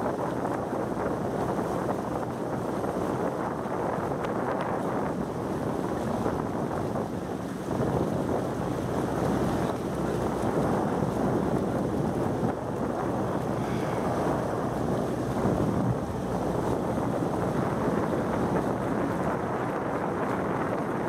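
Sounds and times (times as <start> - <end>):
boat running noise: 0.0 - 21.0
wind buffeting microphone: 0.0 - 21.0.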